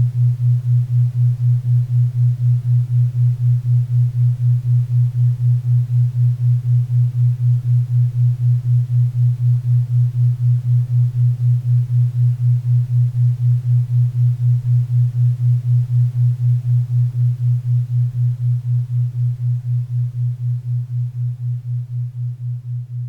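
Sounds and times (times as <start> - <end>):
pulsing low hum tone: 0.0 - 23.0.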